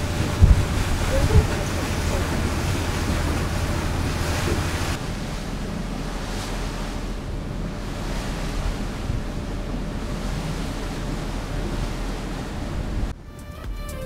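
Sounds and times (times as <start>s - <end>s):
wind buffeting microphone: 0.0s - 13.2s
low rumble of boat and water: 0.0s - 14.0s.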